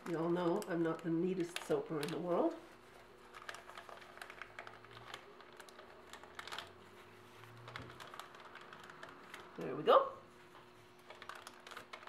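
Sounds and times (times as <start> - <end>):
paper crinkling in gloved hands: 0.0 - 12.0.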